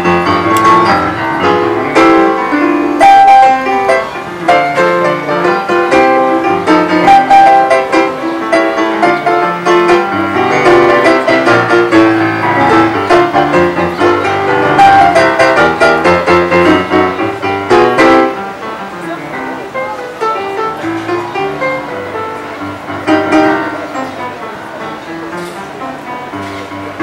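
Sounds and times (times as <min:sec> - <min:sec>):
digital piano playing: 0:00.0 - 0:27.0.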